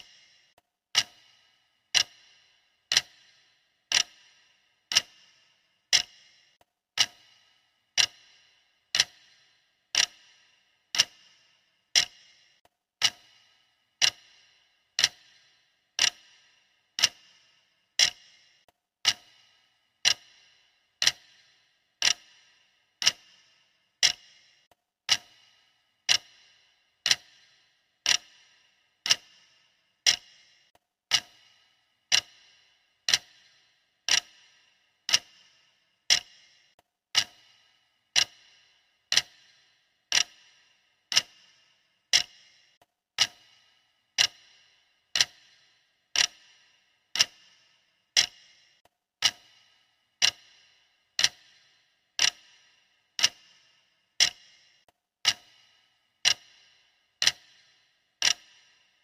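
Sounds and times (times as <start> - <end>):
timer ticking: 0.0 - 59.0.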